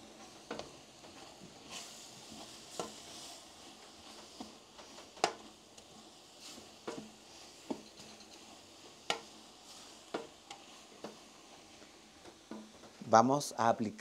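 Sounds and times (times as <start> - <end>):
wooden spoon scraping a pot: 0.0 - 13.0
faint sizzle: 0.0 - 14.0.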